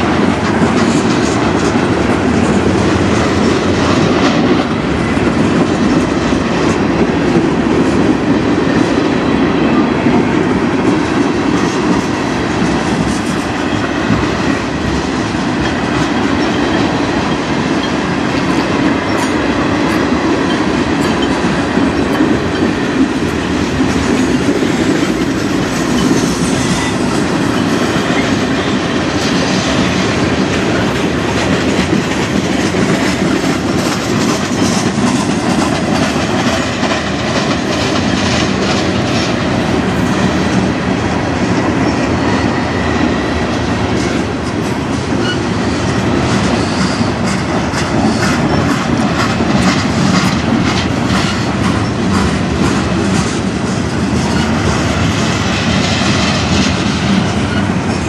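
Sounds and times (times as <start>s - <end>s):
wheels clickety-clack over rail joints: 0.0s - 58.0s.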